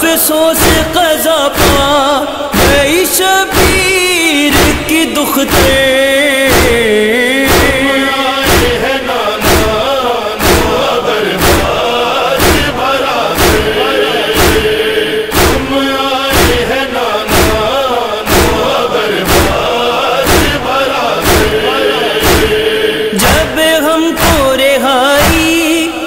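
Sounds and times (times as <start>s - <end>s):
chorus chanting a lament: 0.0s - 26.0s
chest-beating thumps: 1.6s - 23.6s.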